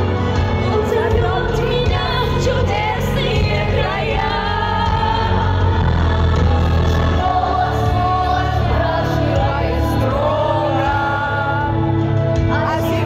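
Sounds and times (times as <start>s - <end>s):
heavy bass line: 0.0s - 13.0s
live pop music: 0.0s - 13.0s
people singing: 0.0s - 13.0s.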